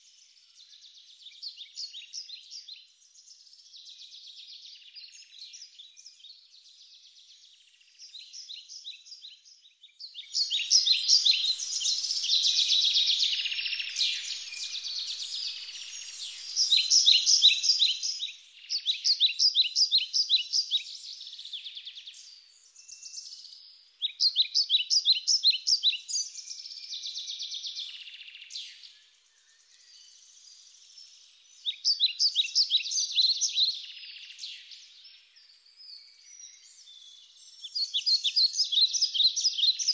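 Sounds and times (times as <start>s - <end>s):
birds singing trills: 5.1s - 39.9s.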